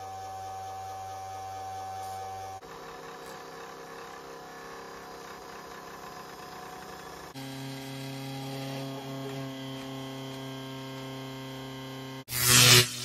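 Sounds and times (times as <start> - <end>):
electric motor hum and whine: 0.0 - 13.0.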